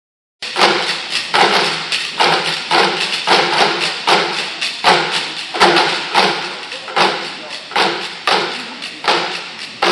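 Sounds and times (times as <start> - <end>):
sticks beating plastic buckets: 0.4 - 9.9.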